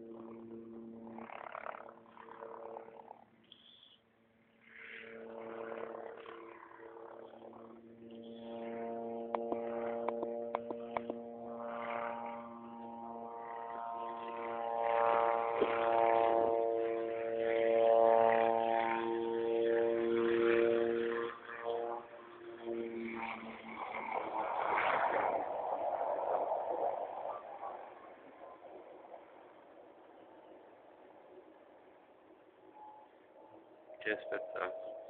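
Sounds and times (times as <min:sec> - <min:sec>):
helicopter flying: 0:00.0 - 0:35.0.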